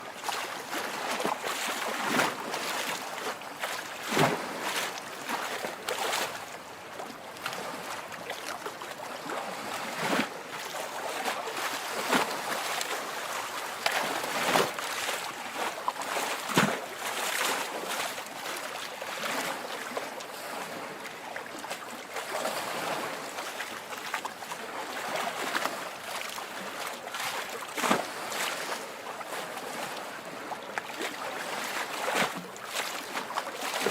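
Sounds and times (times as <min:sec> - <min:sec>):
waves lapping at water's edge: 0:00.0 - 0:33.9.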